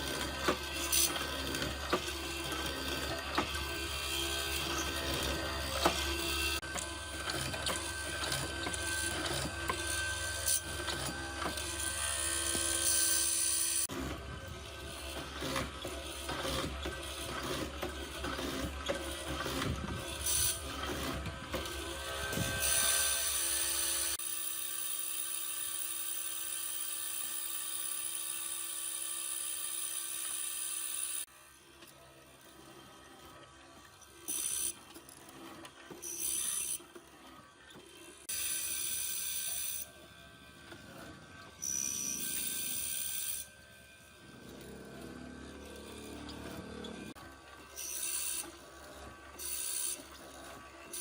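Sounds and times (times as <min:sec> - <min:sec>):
power tool motor whining: 0:00.0 - 0:32.7, 0:33.4 - 0:51.0
workshop machinery humming: 0:00.0 - 0:51.0.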